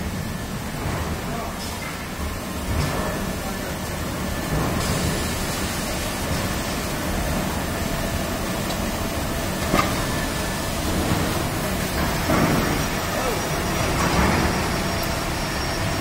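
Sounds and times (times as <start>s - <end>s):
machinery humming and hissing: 0.0s - 16.0s.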